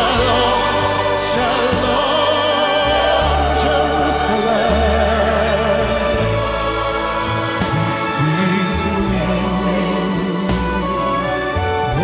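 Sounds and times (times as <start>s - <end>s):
sustained bass notes: 0.0s - 12.0s
worship song with vibrato melody: 0.0s - 12.0s.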